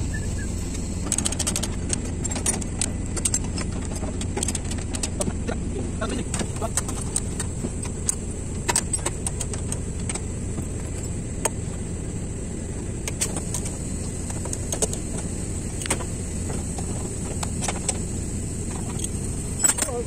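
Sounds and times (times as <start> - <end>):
machinery rumbling: 0.0 - 20.0.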